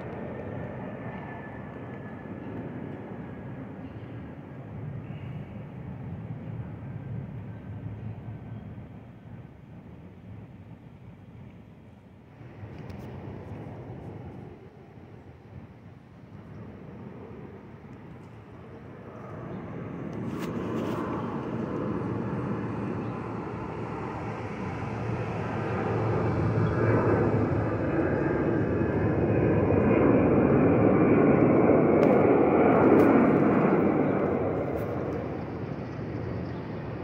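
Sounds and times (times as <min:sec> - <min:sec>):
jet airliner rumble overhead: 0:00.0 - 0:37.0.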